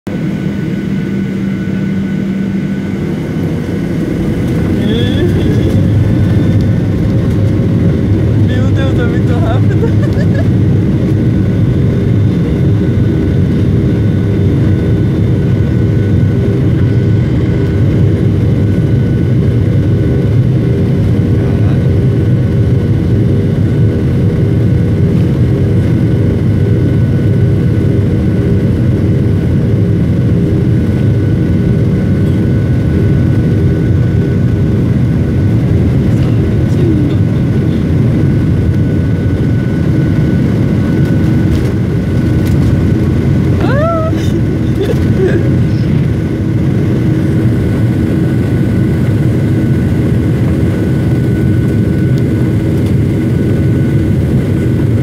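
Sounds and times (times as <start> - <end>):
jet engine whine: 0.1 - 55.0
jet engines and wheels rumbling: 0.1 - 55.0.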